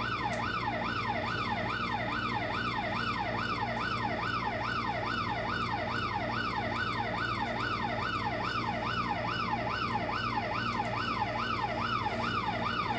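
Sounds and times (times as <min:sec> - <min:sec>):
electronic siren yelping: 0:00.0 - 0:12.9.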